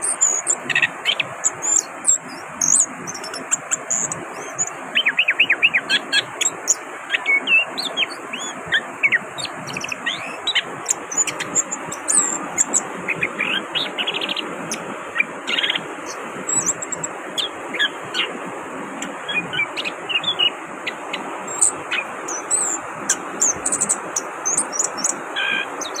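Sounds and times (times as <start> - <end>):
thrush singing: 0.0 - 26.0.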